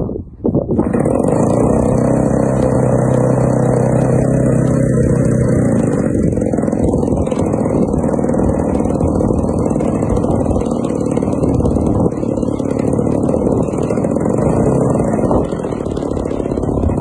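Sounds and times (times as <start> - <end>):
model plane propeller engine running: 0.8 - 17.0.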